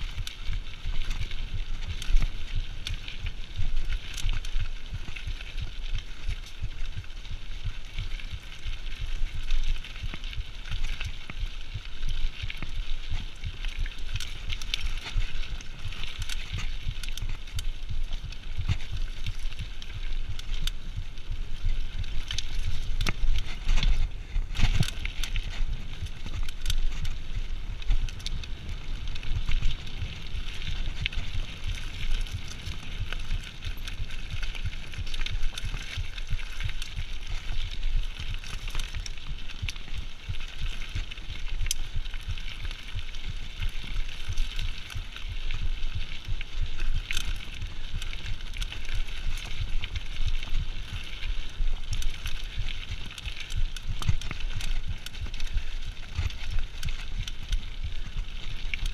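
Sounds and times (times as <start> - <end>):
bike rattling: 0.0 - 58.9
tyres crunching on gravel: 0.0 - 58.9
wind rumbling on microphone: 0.0 - 58.9.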